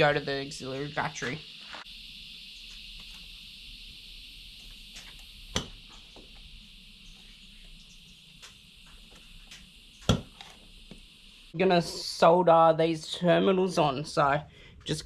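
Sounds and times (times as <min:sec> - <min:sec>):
insects shrilling: 0:00.0 - 0:13.6.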